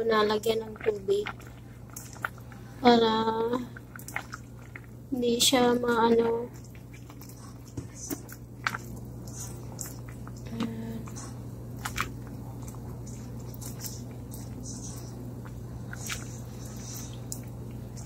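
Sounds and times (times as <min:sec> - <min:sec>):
noodles squelching while stirred: 0:00.0 - 0:18.0
steady low hum: 0:00.0 - 0:18.0.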